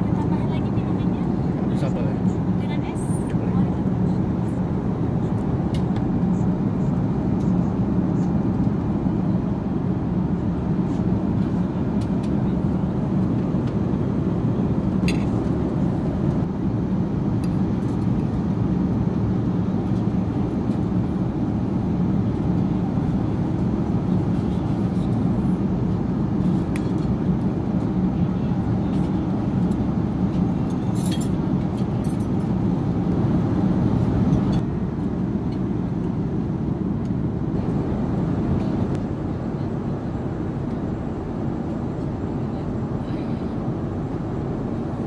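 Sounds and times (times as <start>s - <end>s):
airplane cabin engine rush: 0.0s - 45.0s.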